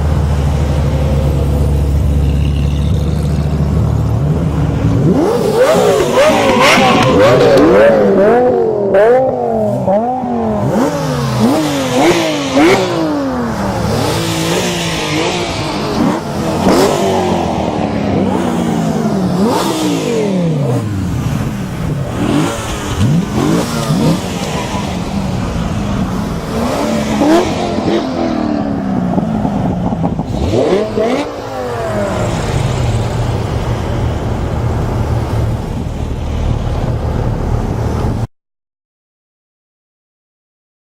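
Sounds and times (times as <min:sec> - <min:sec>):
sports car engine revving: 0:00.6 - 0:36.0.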